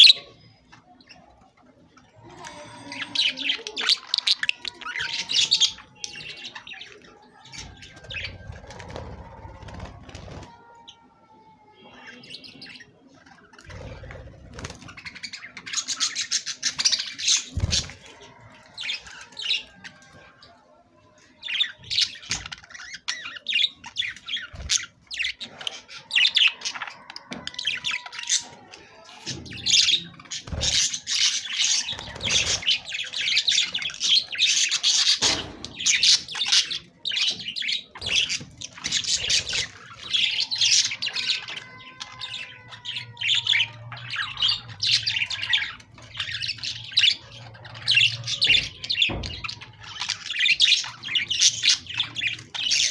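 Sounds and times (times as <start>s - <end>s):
budgerigars chirping and squawking: 0.0s - 52.9s.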